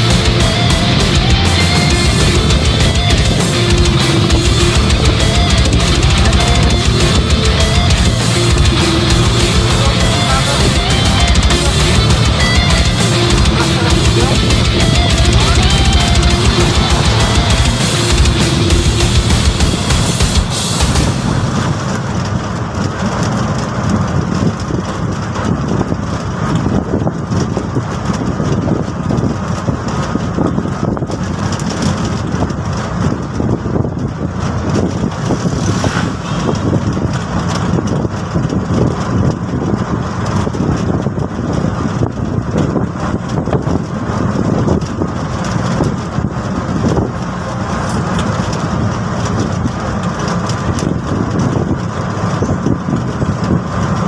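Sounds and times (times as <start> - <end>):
road noise: 0.0 - 54.0
three-wheeler engine running: 0.0 - 54.0.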